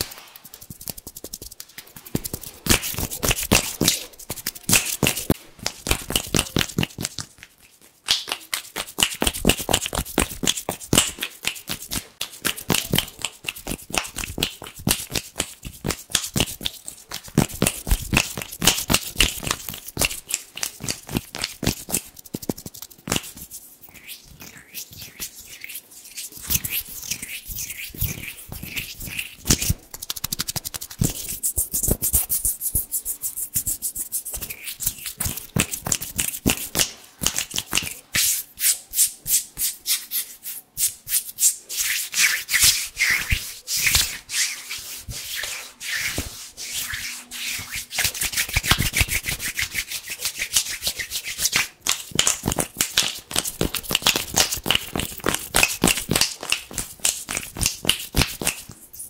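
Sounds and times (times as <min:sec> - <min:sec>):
hands rubbing together: 0:00.0 - 0:59.0.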